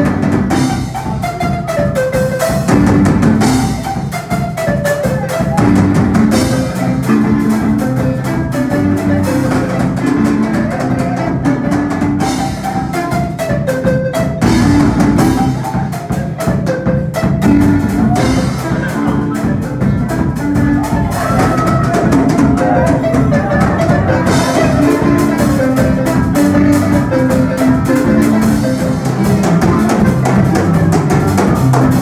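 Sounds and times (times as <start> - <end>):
deep bass marimba notes: 0.0 - 32.0
marimba band playing: 0.0 - 32.0.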